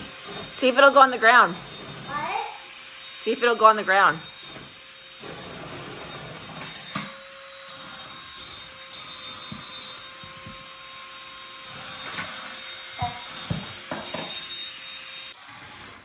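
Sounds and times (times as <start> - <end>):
toy suction fan whirring: 0.0 - 16.0.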